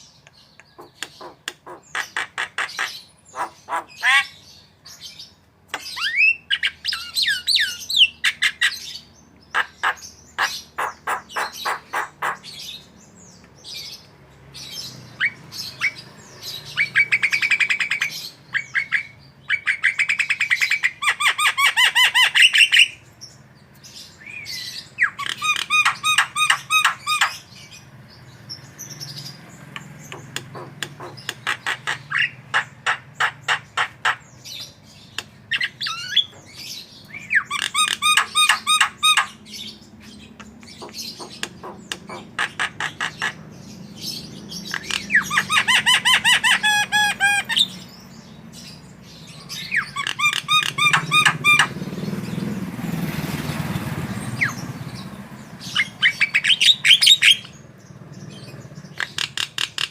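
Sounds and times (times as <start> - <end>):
bird chattering and squawking: 0.0 - 59.9.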